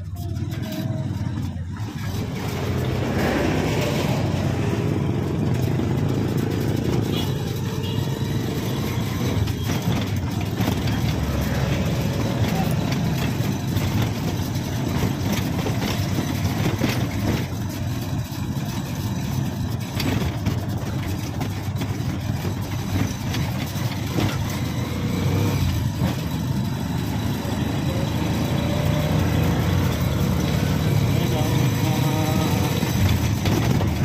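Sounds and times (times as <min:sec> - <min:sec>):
small motorcycle engine running: 0:00.0 - 0:34.0.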